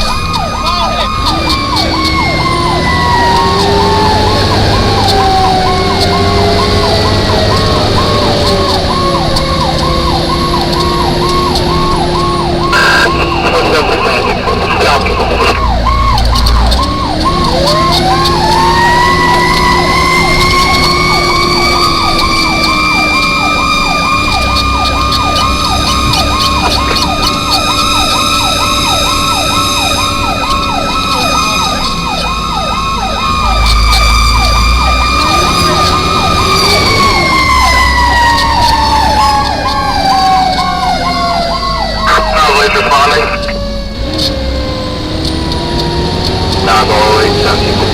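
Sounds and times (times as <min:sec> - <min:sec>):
electronic siren yelping: 0:00.0 - 0:47.9
siren wailing: 0:00.0 - 0:47.9.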